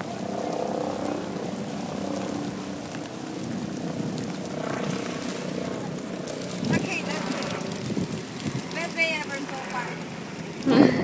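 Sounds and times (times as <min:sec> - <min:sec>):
motor droning: 0:00.0 - 0:11.0
rain hissing: 0:00.0 - 0:11.0.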